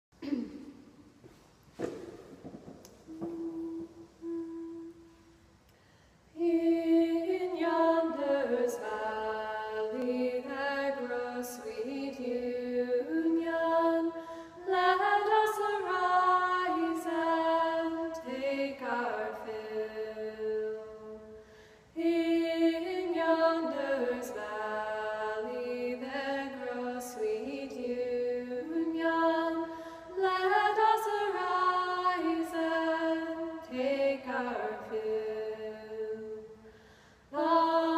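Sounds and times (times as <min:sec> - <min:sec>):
women singing a hymn unaccompanied: 0:03.1 - 0:05.3, 0:06.3 - 0:37.9.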